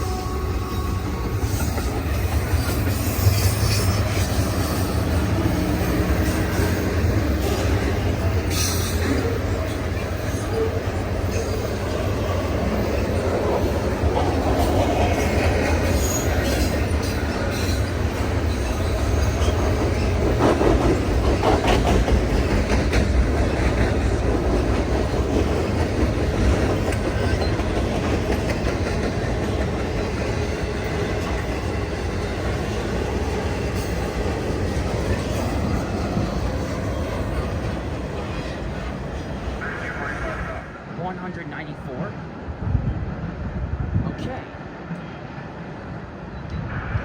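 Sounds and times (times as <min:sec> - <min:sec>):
wheels clacking over rail joints: 0:00.0 - 0:39.6
freight train rumbling past: 0:00.0 - 0:47.0.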